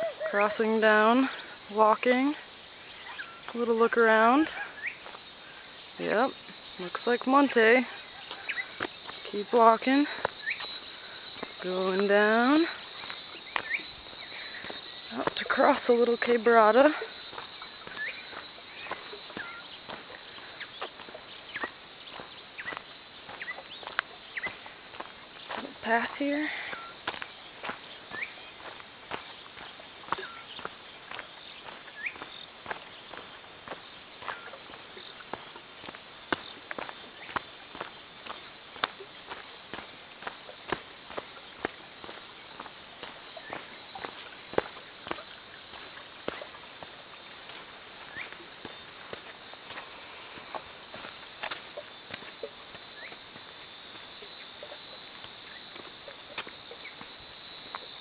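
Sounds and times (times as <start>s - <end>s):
footsteps on dirt path: 0.0s - 58.0s
high-pitched insect chorus: 0.0s - 58.0s.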